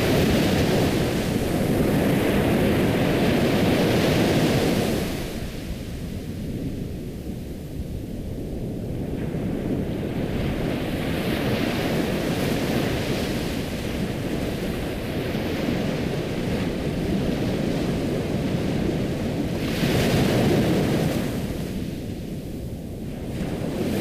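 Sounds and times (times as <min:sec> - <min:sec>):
ocean surf waves: 0:00.0 - 0:24.0.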